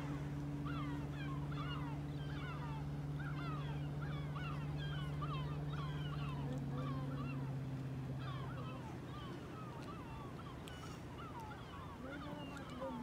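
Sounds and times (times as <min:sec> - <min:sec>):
flock of birds calling: 0:00.0 - 0:13.0
steady low hum: 0:00.0 - 0:13.0.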